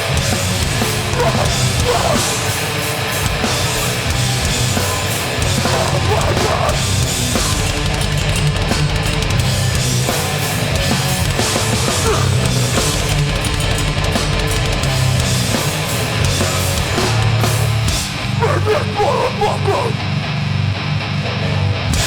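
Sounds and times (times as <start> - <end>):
pounding drums: 0.0 - 18.7
bass guitar: 0.0 - 22.0
distorted guitars: 0.0 - 22.0.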